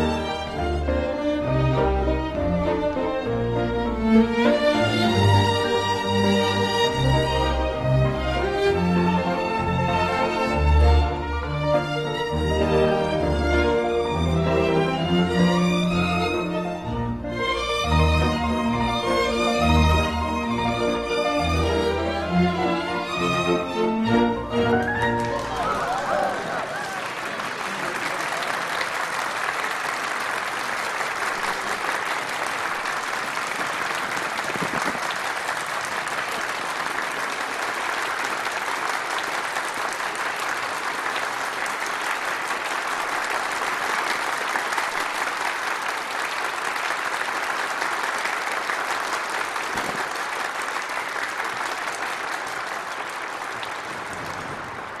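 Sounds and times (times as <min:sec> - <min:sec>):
crowd applauding: 0:00.0 - 0:03.2, 0:03.8 - 0:55.0.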